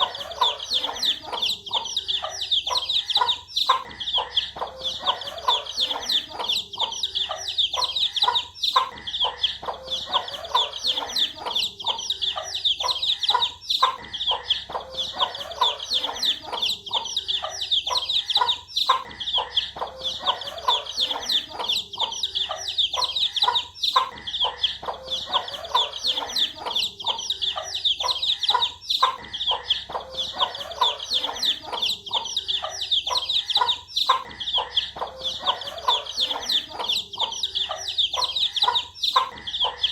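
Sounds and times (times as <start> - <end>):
baby chicks peeping: 0.0 - 39.9
low clucks: 0.0 - 39.9.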